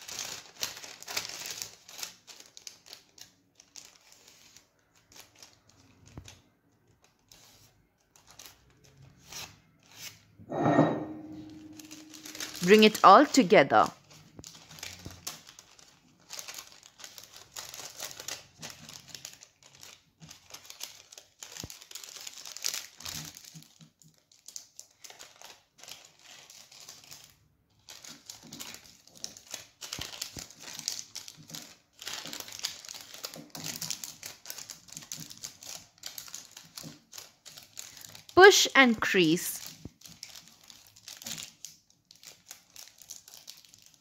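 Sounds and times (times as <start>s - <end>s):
parchment paper crinkling: 0.0s - 10.4s, 11.2s - 44.0s.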